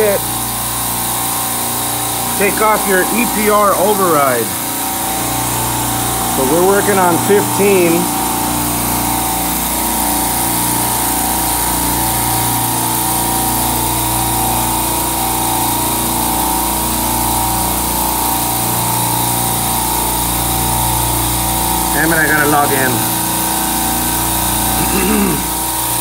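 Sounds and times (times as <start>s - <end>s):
refrigeration compressor humming: 0.0s - 26.0s.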